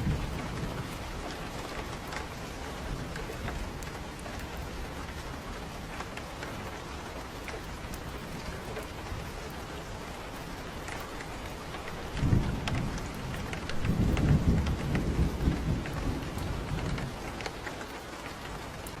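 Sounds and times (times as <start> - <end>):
low thunder rumbling: 0.0 - 19.0
raindrops ticking close by: 0.0 - 19.0
steady rain: 0.0 - 19.0.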